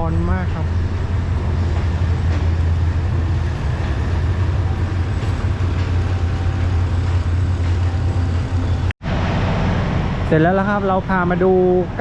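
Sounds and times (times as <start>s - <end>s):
diesel train engine humming: 0.0s - 12.0s.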